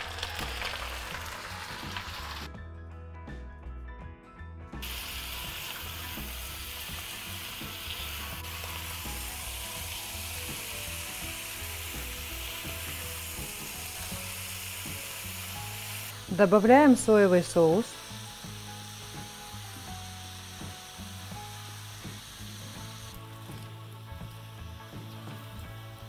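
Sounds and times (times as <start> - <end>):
shrimp sizzling in a pan: 0.0 - 2.5, 4.8 - 26.0.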